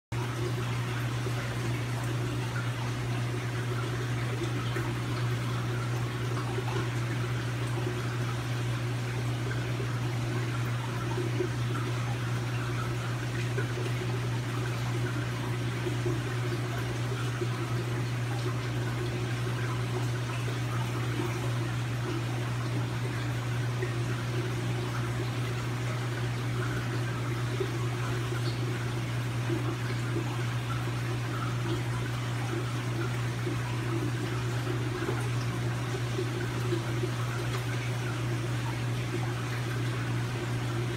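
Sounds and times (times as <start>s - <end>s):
low pump hum: 0.1s - 40.9s.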